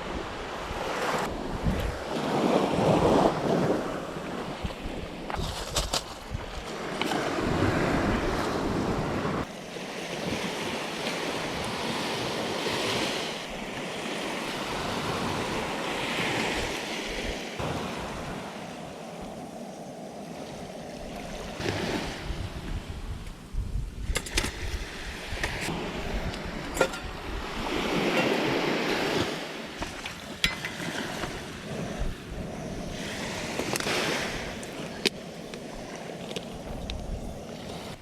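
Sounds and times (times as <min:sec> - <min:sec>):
wind buffeting microphone: 0:00.0 - 0:09.5, 0:11.3 - 0:38.0
seawater washing and surging: 0:00.0 - 0:23.1, 0:24.3 - 0:38.0.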